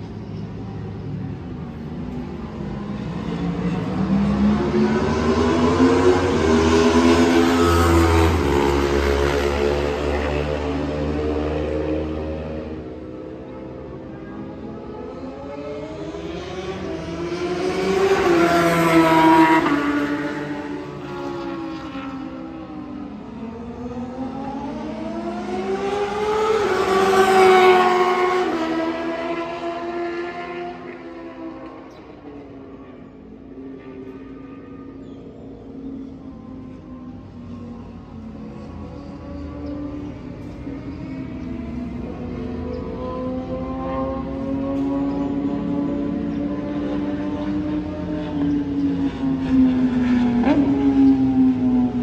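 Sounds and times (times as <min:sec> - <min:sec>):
racing motorcycle engines: 0:00.0 - 0:52.0.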